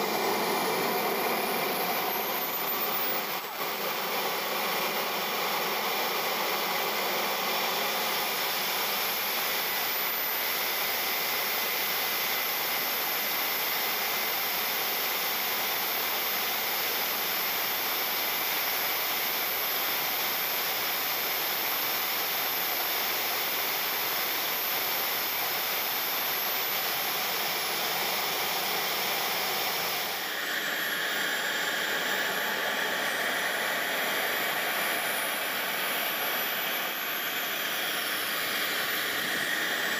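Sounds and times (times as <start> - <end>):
high-pitched turbine whine: 0.0 - 39.9
model jet turbine running: 0.0 - 39.9.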